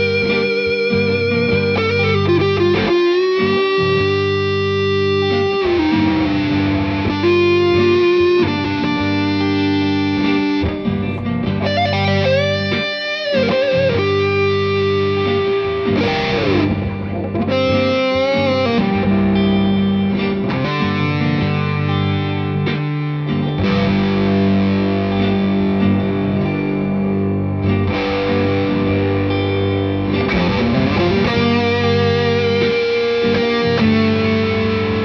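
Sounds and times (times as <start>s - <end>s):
electric guitar lead with bends: 0.0s - 35.0s
sustained accompaniment chords: 0.9s - 22.7s, 23.6s - 35.0s.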